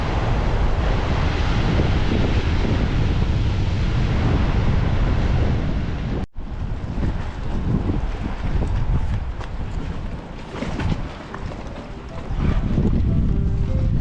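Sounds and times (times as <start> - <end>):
gale buffeting microphone: 0.0 - 14.0
rough crashing sea: 0.0 - 14.0.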